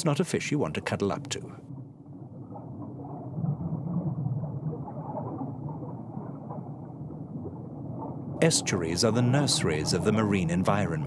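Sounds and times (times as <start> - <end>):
muffled underwater rumble: 0.3 - 11.0.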